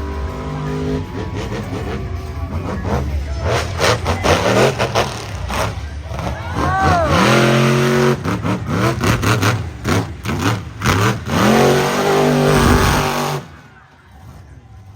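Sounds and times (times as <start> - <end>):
truck engine revving hard: 0.0 - 13.6.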